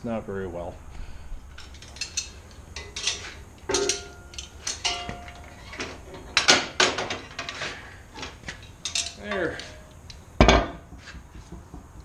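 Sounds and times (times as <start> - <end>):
metal clanks and knocks: 1.5 - 12.0.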